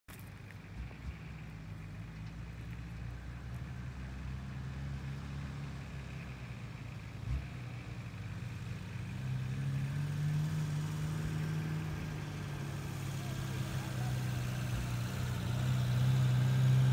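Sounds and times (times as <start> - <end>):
off-road engines at low revs: 0.1 - 16.9.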